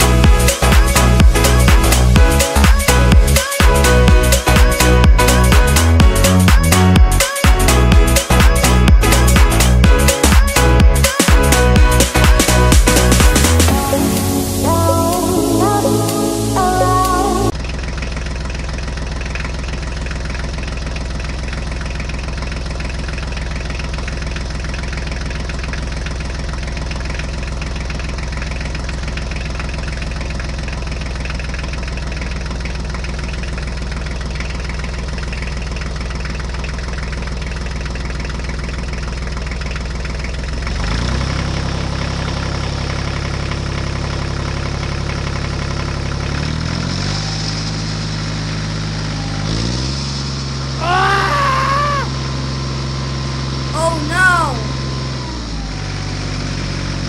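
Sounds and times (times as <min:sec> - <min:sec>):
engine idling: 0:00.0 - 0:47.4.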